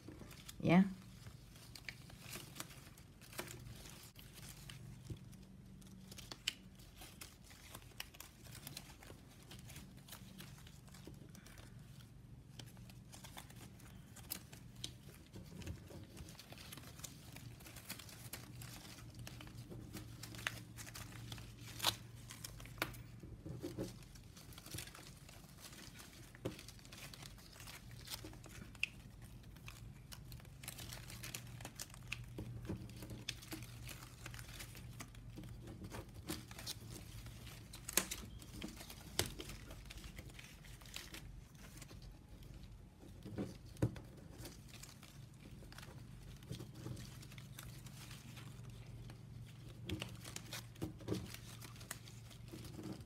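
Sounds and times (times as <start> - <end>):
plastic straps crinkling: 0.0 - 53.0.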